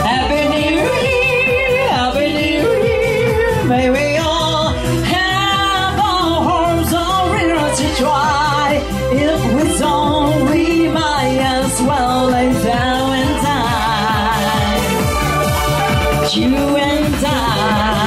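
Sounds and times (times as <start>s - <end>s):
electronic keyboard with steady beat: 0.0s - 18.0s
women singing with vibrato: 0.0s - 18.0s.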